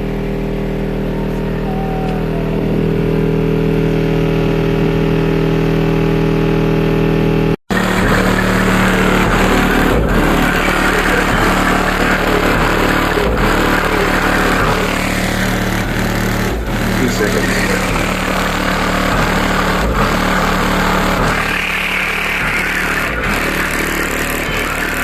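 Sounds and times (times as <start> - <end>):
distorted subwoofer bass tone: 0.0 - 25.0.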